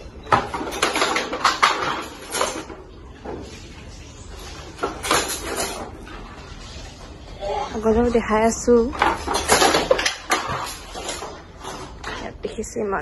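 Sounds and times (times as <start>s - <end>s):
wooden handloom clattering: 0.2s - 3.8s, 4.4s - 6.3s, 7.8s - 12.8s.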